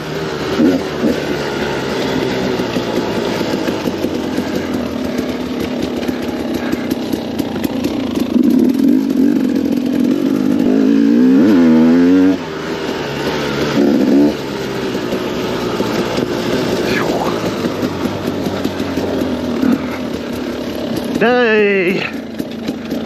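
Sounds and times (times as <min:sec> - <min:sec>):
two-stroke dirt bike engine: 0:00.0 - 0:23.0.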